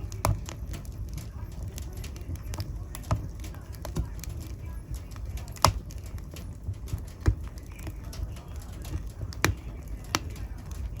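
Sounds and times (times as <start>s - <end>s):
low rumble of flame: 0.0s - 11.0s
sharp pops of fire: 0.0s - 11.0s
wood fire crackling: 0.0s - 11.0s.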